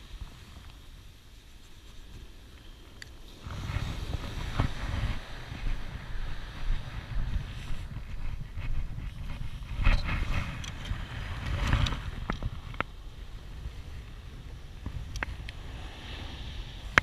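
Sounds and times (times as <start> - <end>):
wind buffeting microphone: 3.2 - 17.0.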